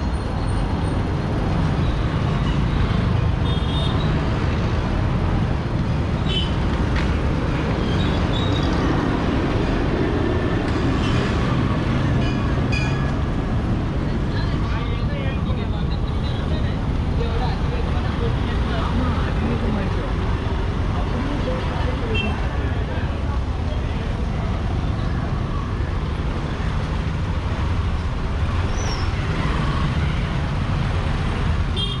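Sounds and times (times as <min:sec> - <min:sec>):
road and traffic noise: 0:00.0 - 0:32.0.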